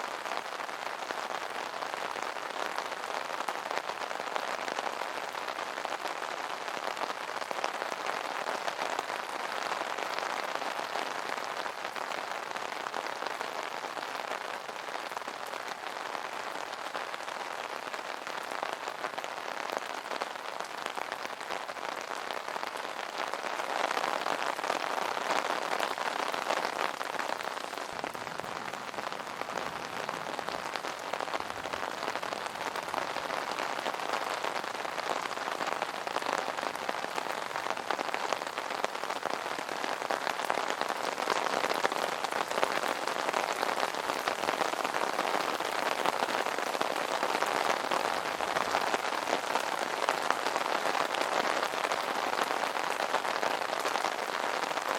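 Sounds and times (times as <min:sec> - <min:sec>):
rain pattering on an umbrella: 0:00.0 - 0:54.9.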